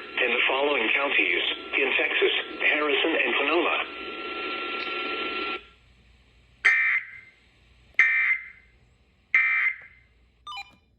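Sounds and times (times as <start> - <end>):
broadcast audio: 0.0 - 10.9.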